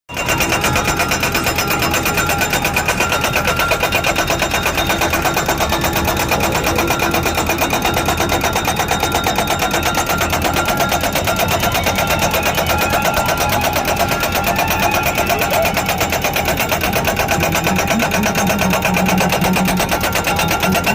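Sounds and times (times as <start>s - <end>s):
machine hammering posts: 0.1s - 20.9s
tractor engine: 0.1s - 20.9s.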